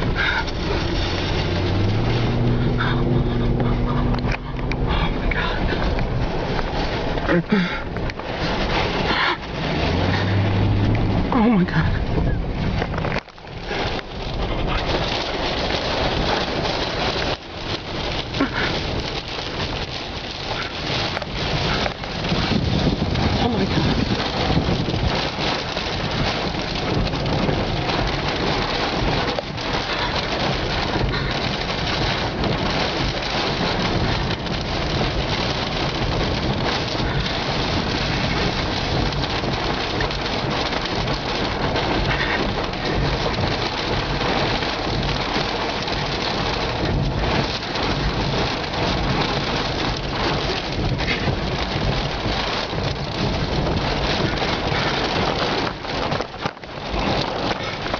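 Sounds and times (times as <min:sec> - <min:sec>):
heavy rain: 0:00.0 - 0:57.9
storm wind: 0:00.0 - 0:57.9.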